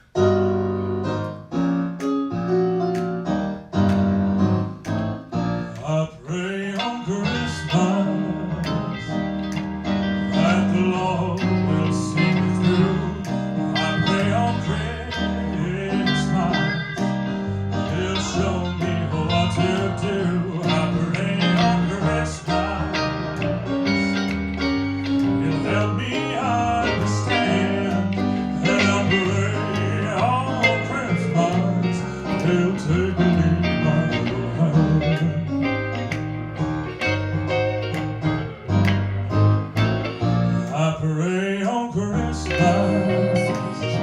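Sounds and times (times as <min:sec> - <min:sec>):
piano chords: 0:00.0 - 0:44.0
band playing with guitar: 0:06.8 - 0:40.9, 0:42.1 - 0:44.0.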